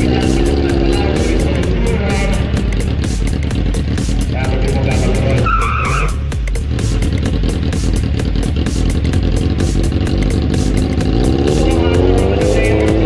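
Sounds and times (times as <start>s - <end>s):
background music with beat: 0.0s - 13.0s
engines running: 0.0s - 13.0s.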